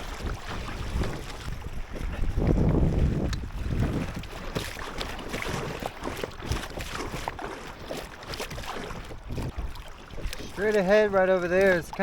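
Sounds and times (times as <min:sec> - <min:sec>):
paddle splashes and drips: 0:00.0 - 0:12.0.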